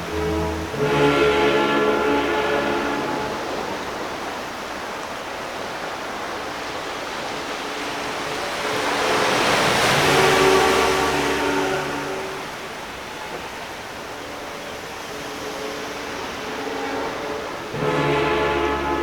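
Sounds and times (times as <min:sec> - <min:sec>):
waves breaking on a beach: 0:00.0 - 0:19.0.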